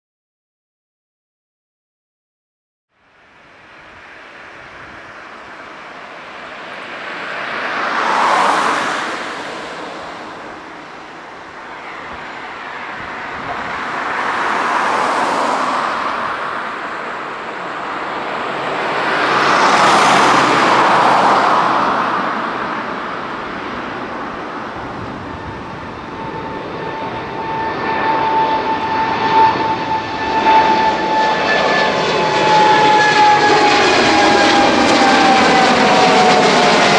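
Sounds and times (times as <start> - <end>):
jet engines roaring: 3.3 - 36.9
engine fan whine: 3.4 - 36.9.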